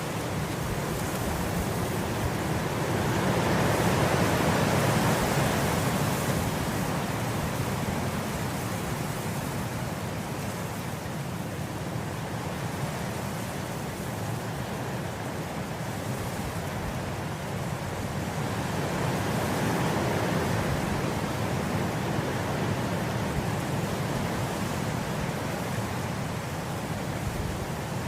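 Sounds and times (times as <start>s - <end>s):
wind blowing through grass: 0.0s - 28.0s.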